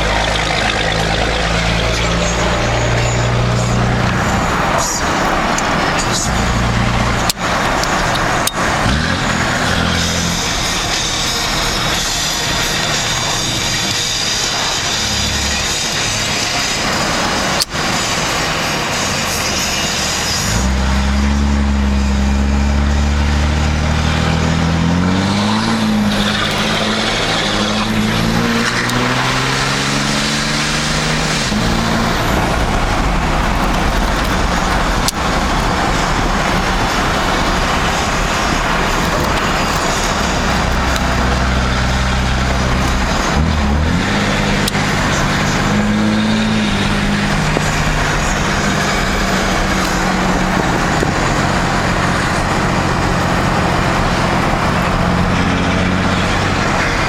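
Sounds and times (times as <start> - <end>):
diesel truck engine drone: 0.0 - 57.0
road noise: 0.0 - 57.0.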